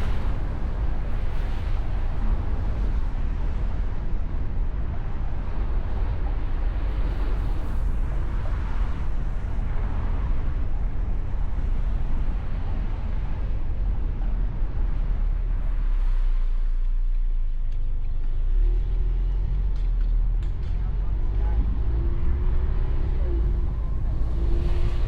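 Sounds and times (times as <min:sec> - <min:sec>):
car and road noise: 0:00.0 - 0:25.0.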